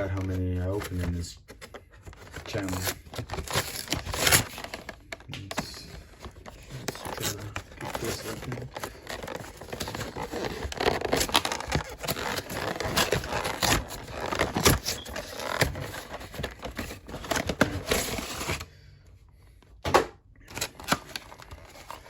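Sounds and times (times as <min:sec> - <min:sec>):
packaging scraped and torn open: 0:00.0 - 0:18.7, 0:20.5 - 0:22.0.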